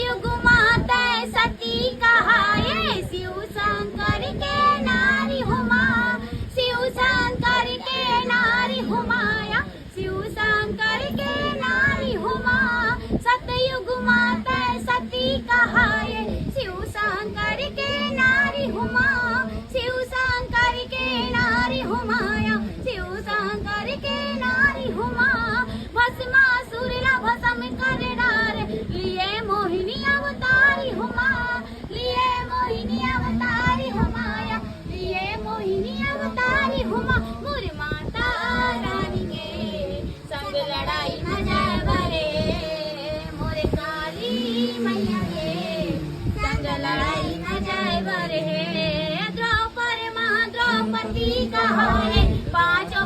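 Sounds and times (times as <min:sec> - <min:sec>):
girl singing devotional song: 0:00.0 - 0:53.0.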